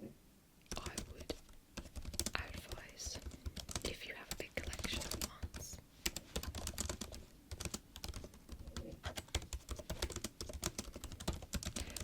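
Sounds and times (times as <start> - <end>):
laptop keyboard typing: 0.7 - 12.0.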